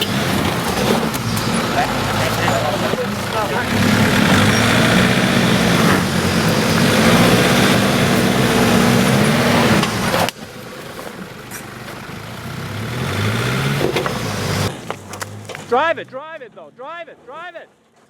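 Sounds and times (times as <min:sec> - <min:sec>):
off-road vehicle engine revving: 0:00.0 - 0:17.5.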